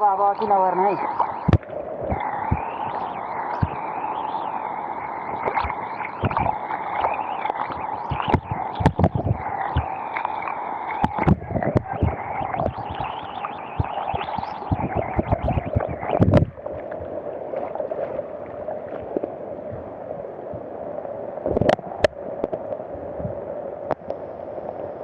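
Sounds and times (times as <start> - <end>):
floodwater rushing: 0.0 - 20.2.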